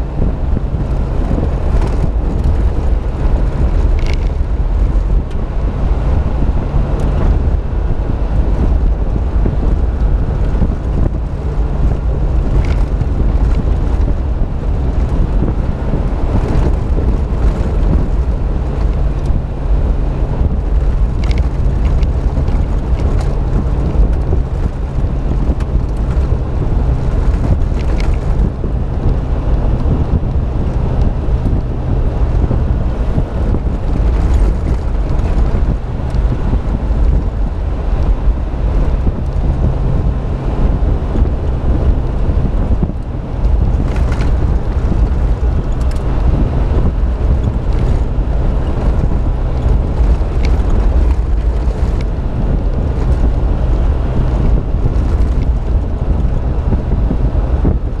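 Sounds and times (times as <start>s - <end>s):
car engine droning: 0.0s - 58.0s
faint body rattles: 0.0s - 58.0s
low road rumble: 0.0s - 58.0s
wind buffeting microphone: 0.0s - 58.0s.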